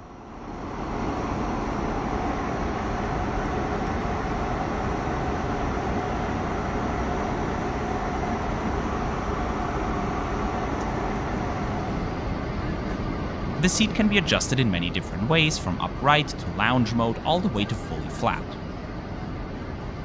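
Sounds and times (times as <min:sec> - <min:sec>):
airliner cabin noise: 0:00.0 - 0:20.0.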